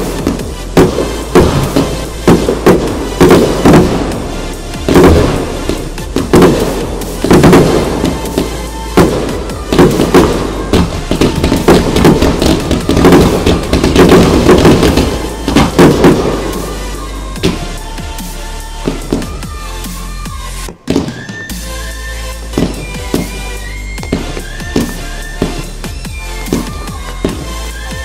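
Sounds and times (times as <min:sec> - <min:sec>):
fireworks bursting loudly: 0:00.0 - 0:28.0
fireworks crackling: 0:00.0 - 0:28.0.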